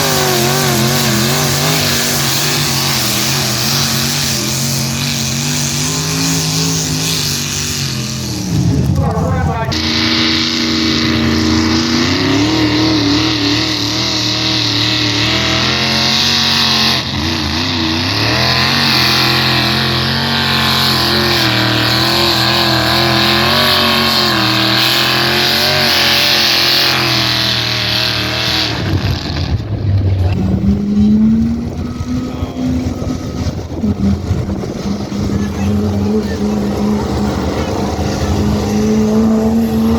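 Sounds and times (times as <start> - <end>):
pulling tractor engine revving hard: 0.0 - 39.9
second engine revving: 0.0 - 39.9.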